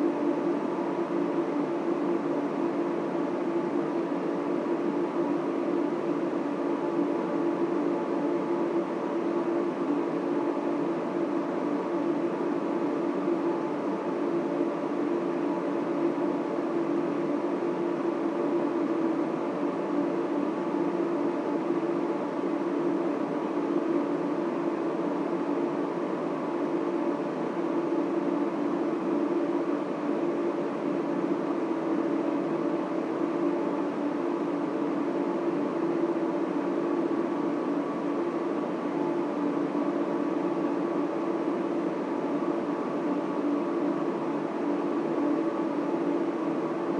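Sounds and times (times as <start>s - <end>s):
server fans humming: 0.0s - 46.9s.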